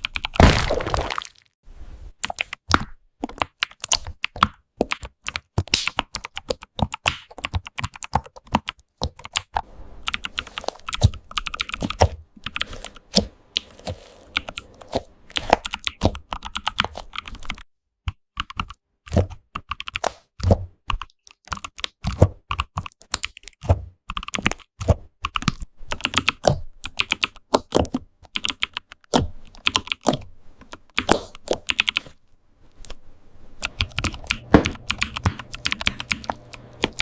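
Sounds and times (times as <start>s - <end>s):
keyboard typing: 0.0s - 0.4s, 2.2s - 20.1s, 20.9s - 32.2s, 33.6s - 37.0s.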